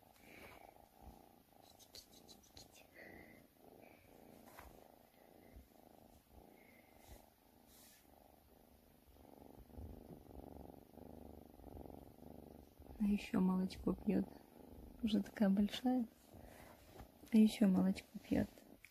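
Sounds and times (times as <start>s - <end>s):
cat purring: 0.0s - 18.9s.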